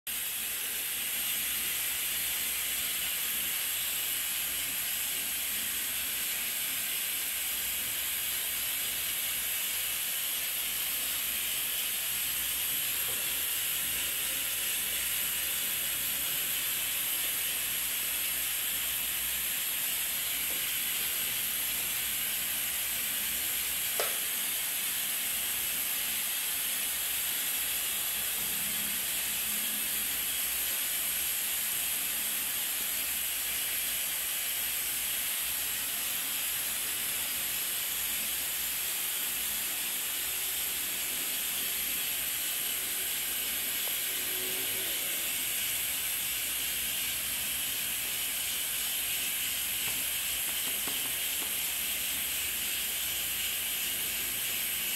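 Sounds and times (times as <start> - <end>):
steady hiss: 0.1 - 54.9.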